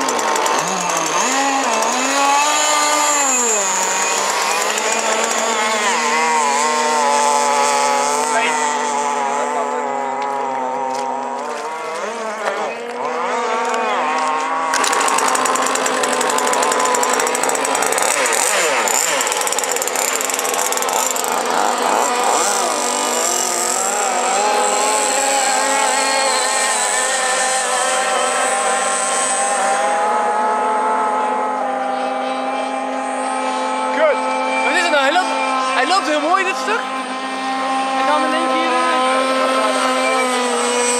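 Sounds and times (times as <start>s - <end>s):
model boat engine revving: 0.0s - 40.9s.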